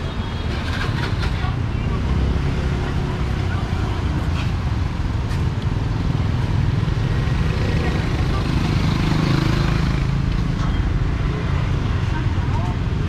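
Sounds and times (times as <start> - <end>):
motorbike engines: 0.0 - 13.0
street traffic: 0.0 - 13.0.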